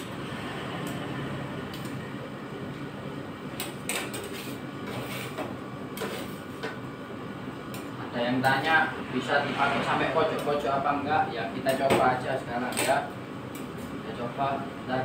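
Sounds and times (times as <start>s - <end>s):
refrigeration unit humming: 0.0s - 15.0s.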